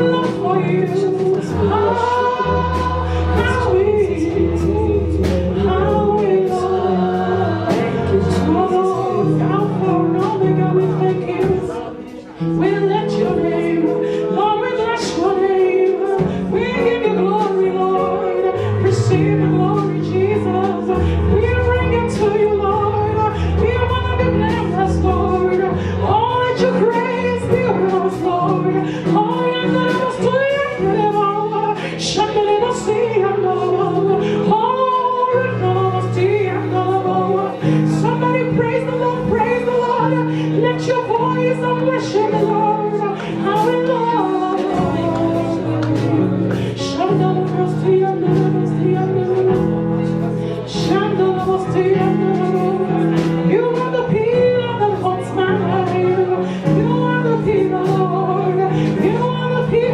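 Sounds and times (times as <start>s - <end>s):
gospel singing: 0.0s - 59.9s
keyboard and bass chords: 0.0s - 59.9s.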